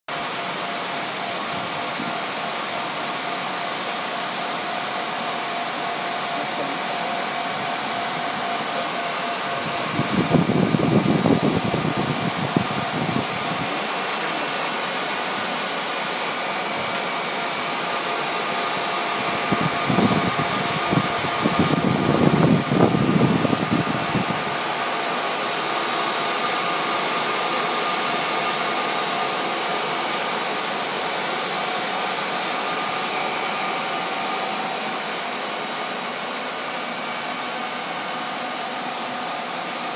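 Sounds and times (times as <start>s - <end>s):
cooling fans whooshing: 0.1s - 39.9s.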